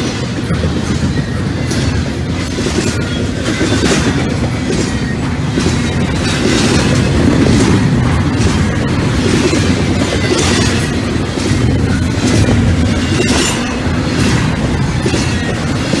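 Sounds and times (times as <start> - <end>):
freight train wheels rumbling: 0.0 - 16.0
clicks and clanks: 0.1 - 16.0.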